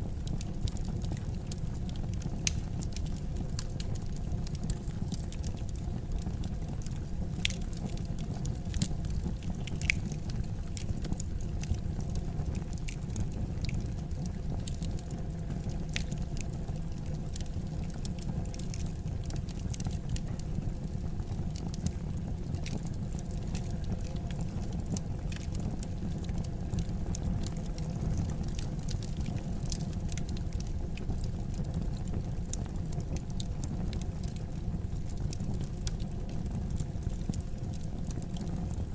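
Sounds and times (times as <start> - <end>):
fire burning: 0.0 - 38.9
fire crackling and popping: 0.0 - 38.9.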